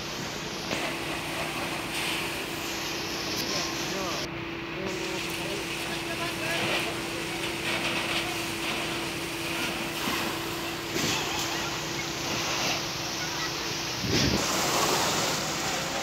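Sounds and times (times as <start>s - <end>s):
water jet spraying on metal roofing: 0.0s - 16.0s.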